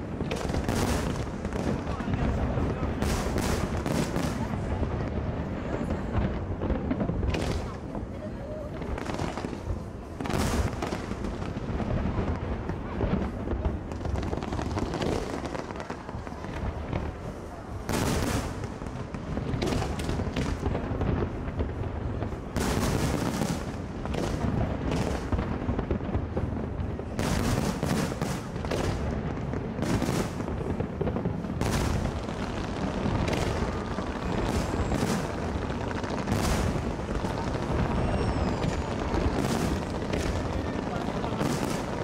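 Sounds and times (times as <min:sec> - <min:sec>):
fireworks bangs and crackles: 0:00.0 - 0:42.0
fireworks booming: 0:00.0 - 0:42.0.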